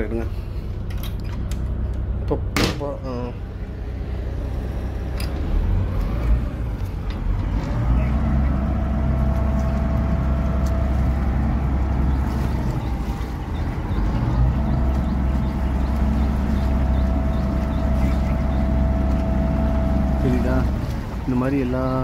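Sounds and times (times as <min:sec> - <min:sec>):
boat engine rumbling: 0:00.0 - 0:22.0
water washing along hull: 0:02.6 - 0:22.0.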